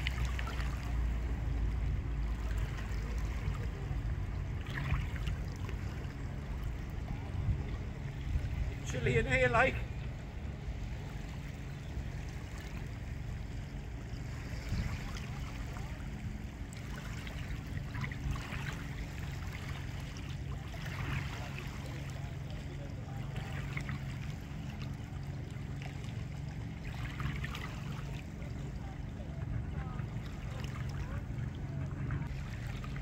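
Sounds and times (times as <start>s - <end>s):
lake water lapping: 0.0s - 33.0s
soft splashes: 0.0s - 33.0s
wind rumble on microphone: 0.0s - 33.0s.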